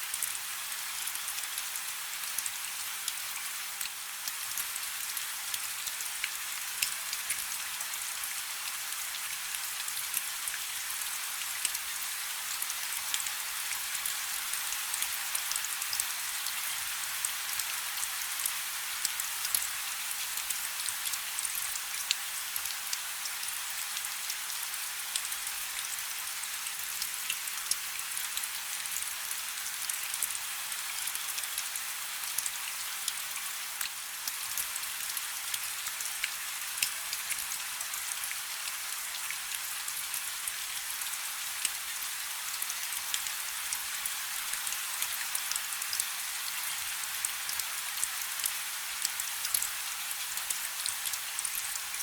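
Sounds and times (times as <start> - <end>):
rain falling on a river: 0.0 - 52.0.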